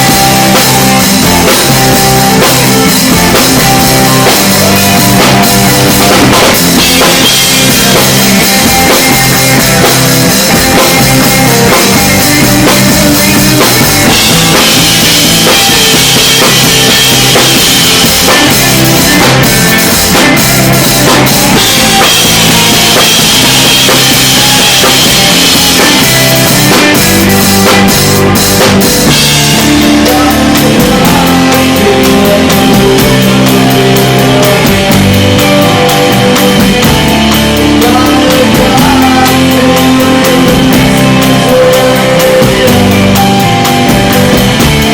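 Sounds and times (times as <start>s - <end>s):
bass drum: 0.0s - 44.9s
rock band playing live: 0.0s - 44.9s.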